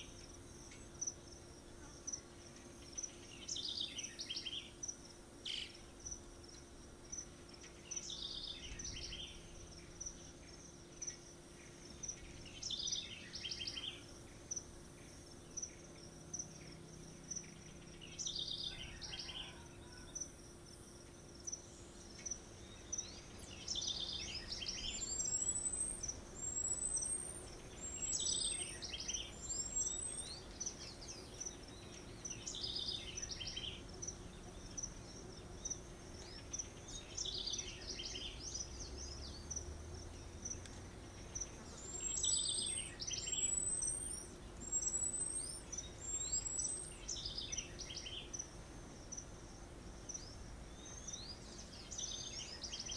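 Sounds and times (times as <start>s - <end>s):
bird song: 0.0s - 20.4s, 21.1s - 52.9s.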